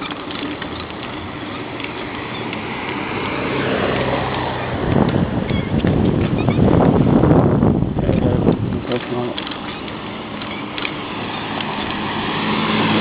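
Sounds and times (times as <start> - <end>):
motor vehicle rushing hum: 0.0 - 13.0.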